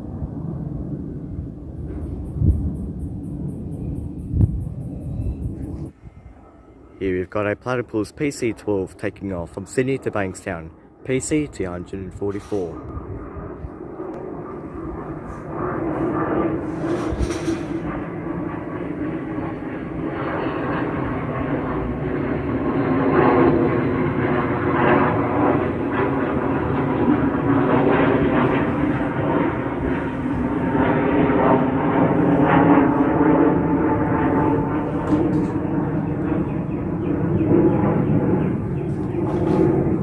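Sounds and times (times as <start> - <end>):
turboprop plane taking off: 0.0 - 40.0.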